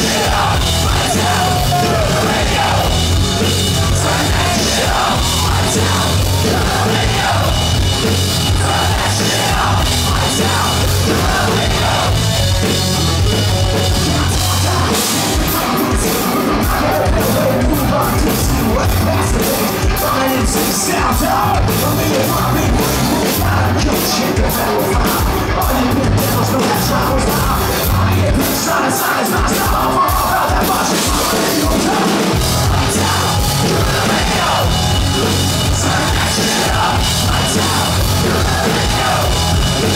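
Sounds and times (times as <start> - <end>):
live hard rock band: 0.0 - 39.9.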